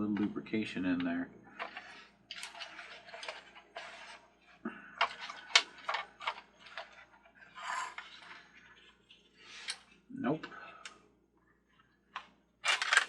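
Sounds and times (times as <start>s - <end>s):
plastic parts clicking and scraping: 0.9s - 11.0s, 11.7s - 13.0s.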